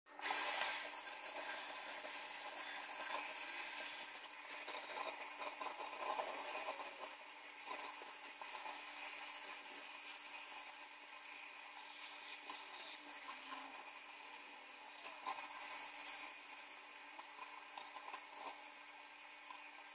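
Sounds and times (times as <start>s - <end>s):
faint steady hum: 0.8s - 19.9s.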